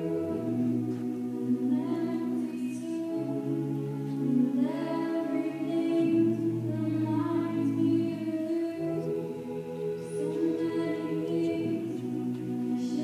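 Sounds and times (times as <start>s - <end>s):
a cappella group singing: 0.0s - 13.0s.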